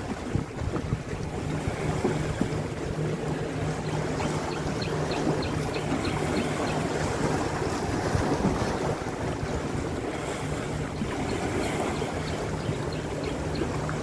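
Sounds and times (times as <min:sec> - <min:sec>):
waves washing against rocks: 0:00.0 - 0:12.6
low engine-like hum: 0:00.0 - 0:14.0
wind on microphone: 0:00.0 - 0:14.0.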